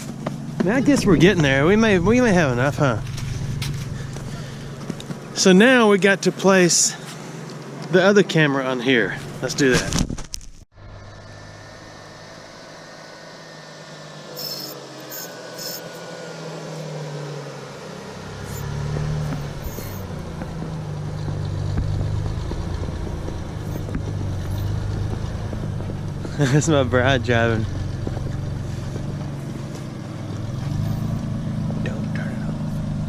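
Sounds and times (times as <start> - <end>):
vehicle engine approaching: 0.0 - 9.7, 10.8 - 33.0.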